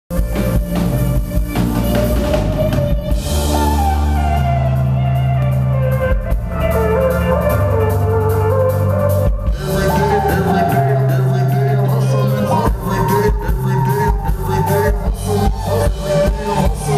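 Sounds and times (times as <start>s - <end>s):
deep bass notes: 0.1s - 16.9s
drum kit beats: 0.1s - 16.9s
sliding lead melody: 0.1s - 16.9s.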